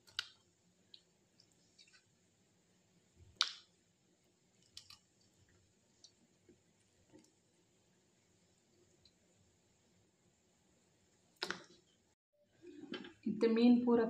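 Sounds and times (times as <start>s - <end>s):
thick gravy simmering: 0.0s - 11.9s.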